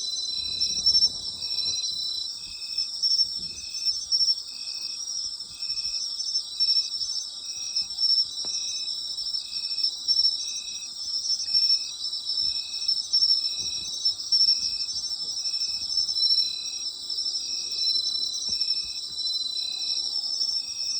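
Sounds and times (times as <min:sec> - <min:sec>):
crickets trilling: 0:00.0 - 0:20.9
insect chirps: 0:00.0 - 0:20.9.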